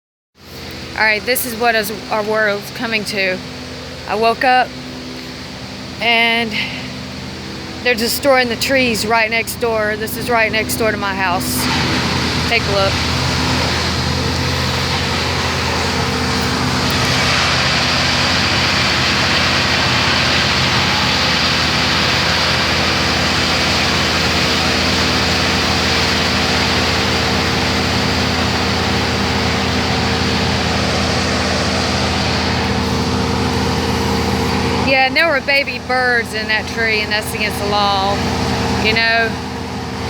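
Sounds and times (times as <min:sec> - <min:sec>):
large engine running: 0:00.4 - 0:40.0.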